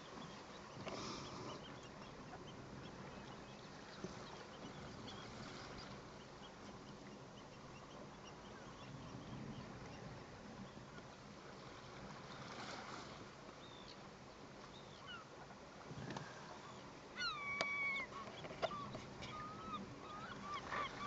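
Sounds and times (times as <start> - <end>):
wind and water hiss: 0.0 - 21.0.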